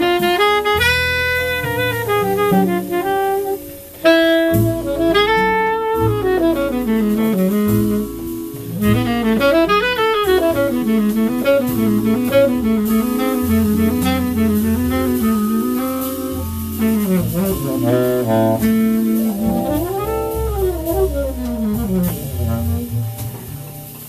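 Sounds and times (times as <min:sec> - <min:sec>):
saxophone melody: 0:00.0 - 0:23.6
walking double bass: 0:00.0 - 0:24.0.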